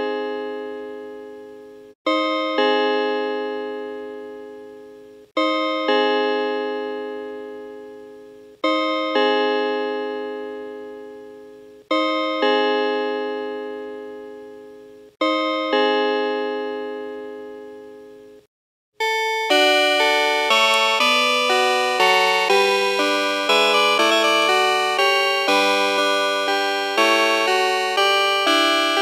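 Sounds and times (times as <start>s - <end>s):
two-note clock chime: 2.1s - 18.3s, 19.0s - 29.0s.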